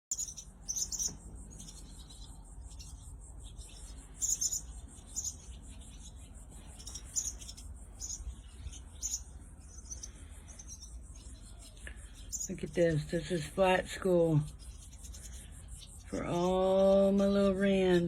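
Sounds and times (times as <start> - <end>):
birds chirping high: 0.0 - 18.0
insects buzzing: 0.1 - 18.0.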